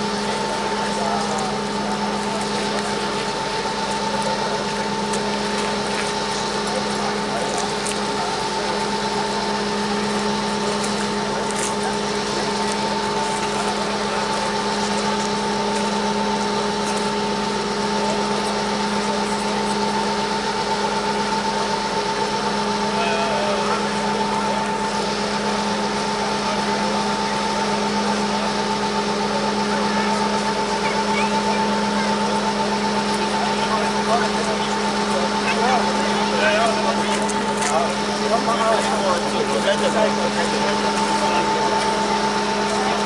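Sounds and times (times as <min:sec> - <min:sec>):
diesel locomotive engine drone: 0:00.0 - 0:43.0.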